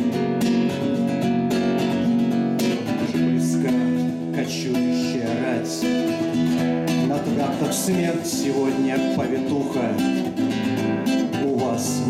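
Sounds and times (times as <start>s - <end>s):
acoustic guitars strumming: 0.0s - 12.0s.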